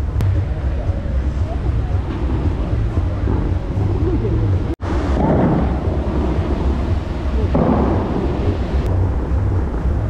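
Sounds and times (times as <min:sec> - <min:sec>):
low rumble: 0:00.0 - 0:10.0
fountain water jets spraying: 0:00.8 - 0:10.0.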